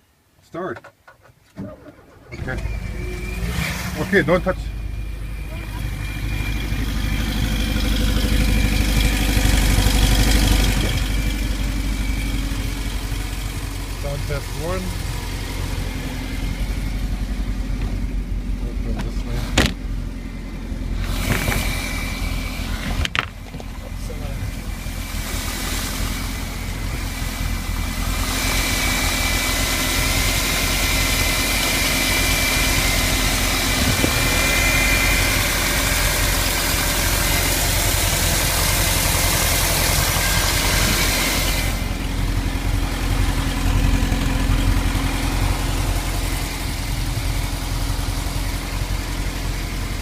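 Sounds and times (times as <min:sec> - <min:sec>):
van engine running: 0:01.2 - 0:50.0.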